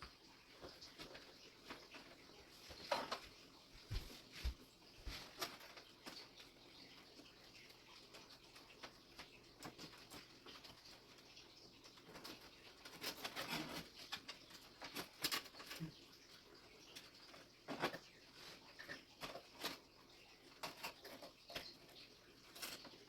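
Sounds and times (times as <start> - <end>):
cables clicking and rustling: 0.0 - 23.0.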